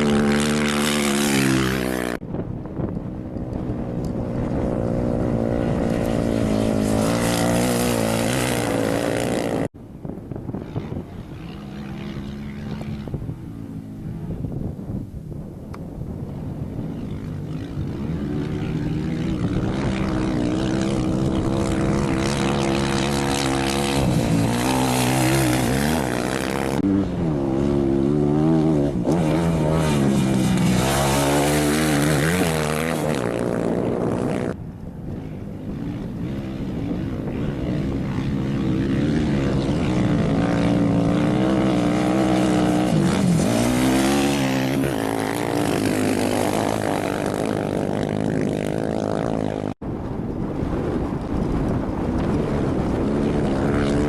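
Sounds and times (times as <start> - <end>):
motorcycle and quad engines revving: 0.0 - 15.1, 15.9 - 54.0.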